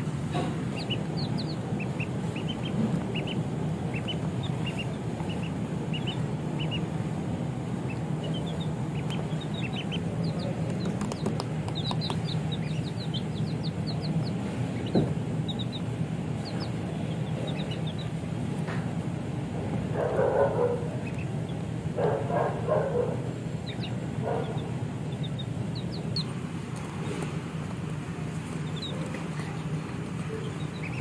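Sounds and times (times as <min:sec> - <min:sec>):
chicks and ducklings peeping: 0:00.0 - 0:31.0
steady low hum: 0:00.0 - 0:31.0.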